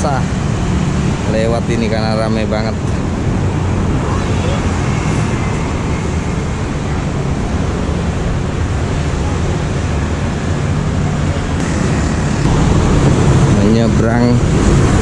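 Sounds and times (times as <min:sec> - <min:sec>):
heavy city traffic: 0:00.0 - 0:15.0.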